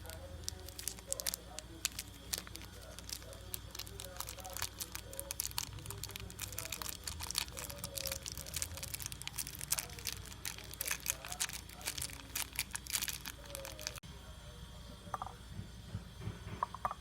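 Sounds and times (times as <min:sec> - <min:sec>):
crinkling and rustling: 0:00.0 - 0:14.0.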